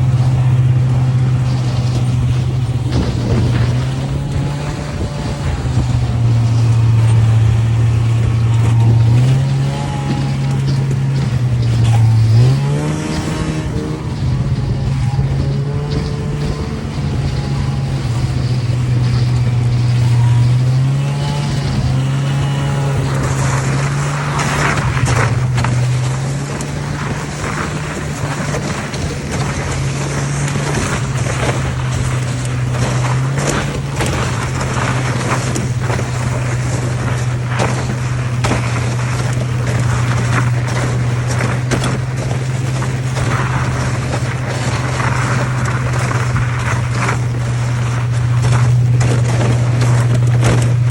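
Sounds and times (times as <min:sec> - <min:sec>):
rushing noise: 0:00.0 - 0:50.9
vehicle engine droning: 0:00.0 - 0:50.9.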